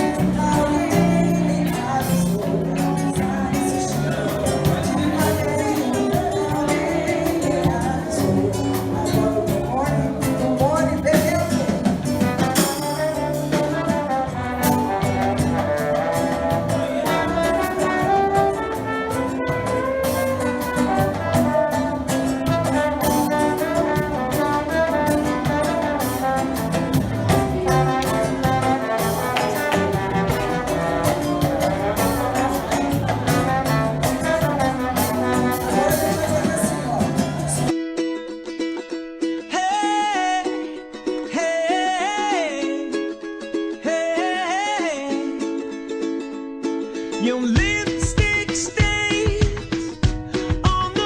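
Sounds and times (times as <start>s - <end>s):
music with steady beat: 0.0s - 37.7s, 47.5s - 51.0s.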